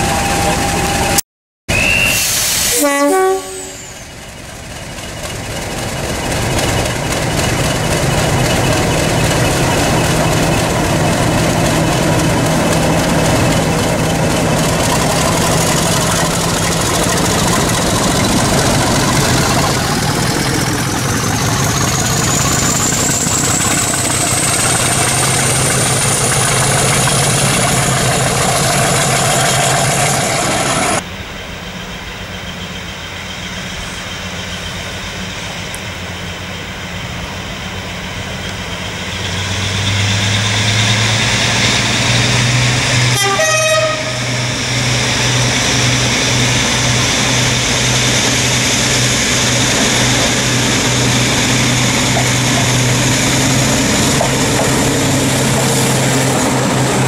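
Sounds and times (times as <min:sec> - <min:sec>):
diesel locomotive engine running: 0:00.0 - 0:57.0
distant diesel locomotive: 0:00.0 - 0:57.0
high engine whine: 0:00.0 - 0:57.0.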